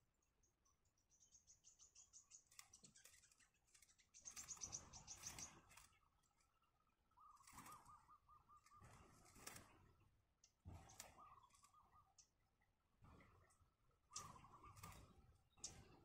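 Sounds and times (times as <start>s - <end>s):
nestling birds peeping: 0.0s - 16.0s.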